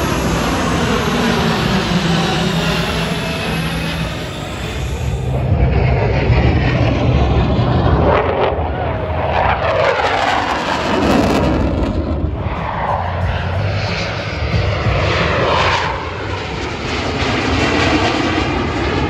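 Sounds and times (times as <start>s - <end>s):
jet roar: 0.0s - 19.0s.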